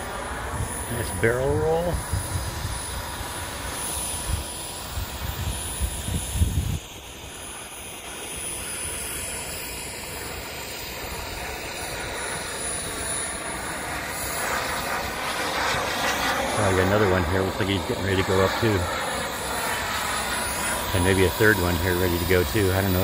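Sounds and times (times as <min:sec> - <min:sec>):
model aircraft engine hissing: 0:00.0 - 0:23.0.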